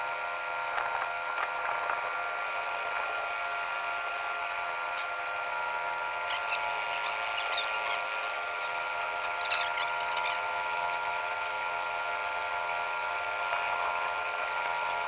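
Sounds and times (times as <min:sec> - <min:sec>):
machinery whine: 0:00.0 - 0:15.0.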